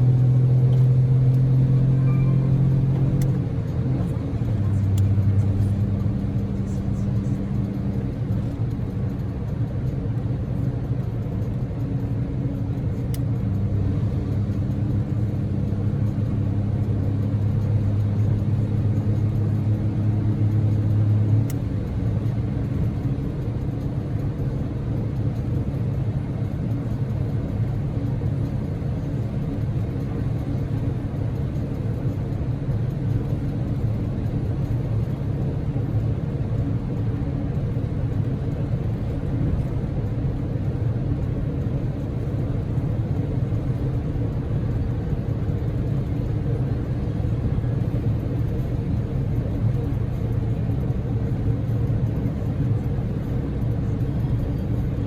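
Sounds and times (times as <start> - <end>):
car engine hum: 0.0 - 55.0
road and tyre rumble: 0.0 - 55.0.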